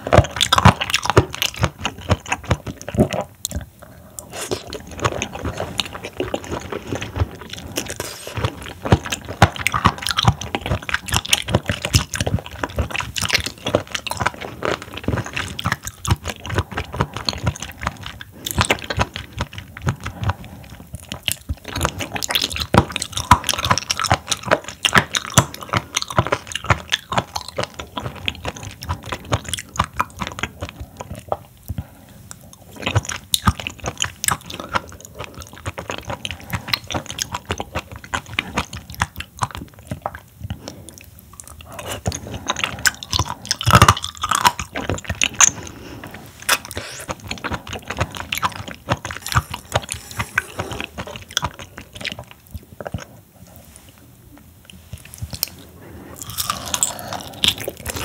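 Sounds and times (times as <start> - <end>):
chewing raw seafood: 0.0 - 58.0.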